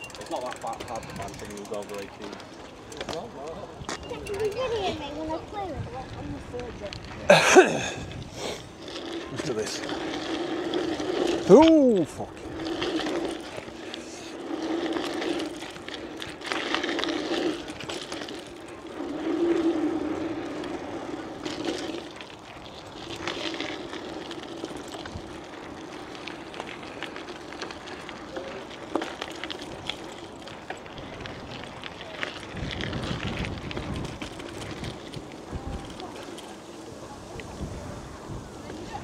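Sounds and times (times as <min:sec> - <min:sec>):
bicycle rattles and knocks: 0:00.0 - 0:39.0
bicycle tyres humming: 0:00.0 - 0:39.0.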